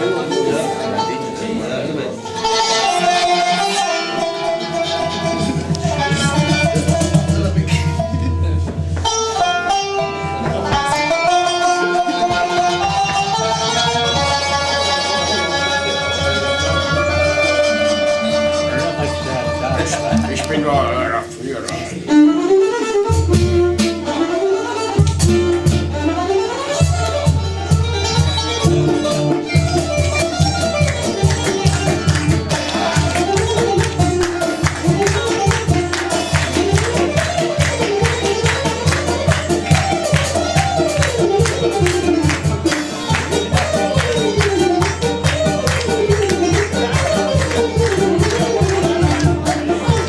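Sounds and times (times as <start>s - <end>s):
acoustic guitar: 0.0s - 50.0s
low pulsing band accompaniment: 0.0s - 50.0s
plucked zither notes: 0.0s - 50.0s
qanun: 0.0s - 50.0s
violin: 0.0s - 50.0s
hand drum strokes: 2.2s - 50.0s.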